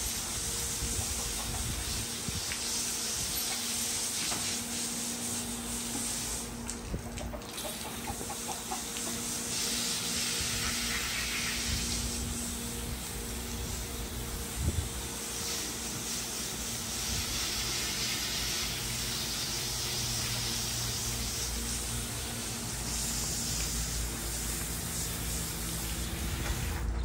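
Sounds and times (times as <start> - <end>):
hose water spraying: 0.0 - 27.0.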